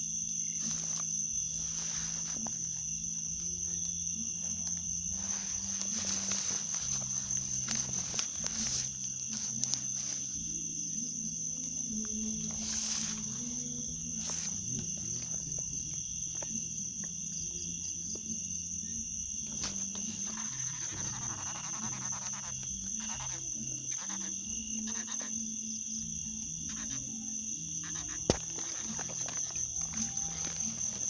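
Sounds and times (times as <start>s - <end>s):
crickets trilling: 0.0s - 31.0s
pulsing insect chorus: 0.0s - 31.0s.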